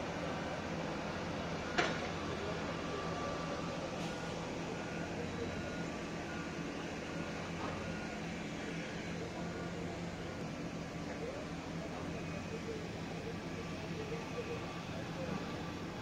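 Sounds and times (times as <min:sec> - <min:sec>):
heavy diesel machinery drone: 0:00.0 - 0:16.0.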